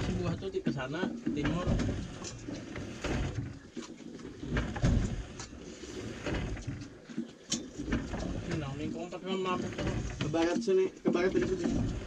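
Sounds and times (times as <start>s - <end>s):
dull thumps: 0.0s - 12.0s.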